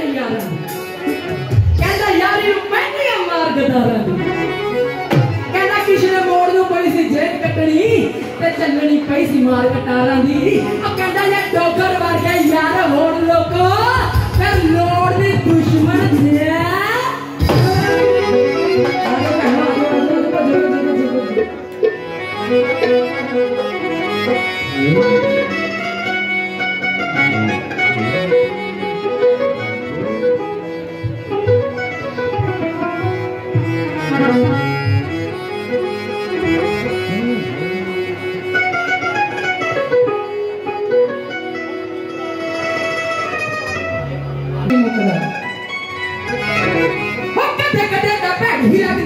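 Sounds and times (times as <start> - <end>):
live band playing instrumental: 0.0 - 49.0.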